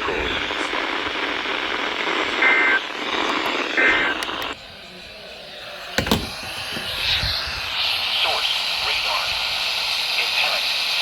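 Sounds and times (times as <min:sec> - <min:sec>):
radio static: 0:00.0 - 0:04.6, 0:06.0 - 0:10.8.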